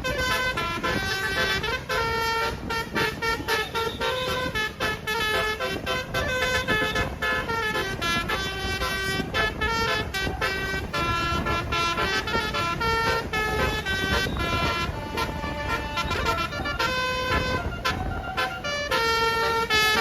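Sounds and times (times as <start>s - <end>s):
bus horn playing a melody: 0.0s - 20.0s.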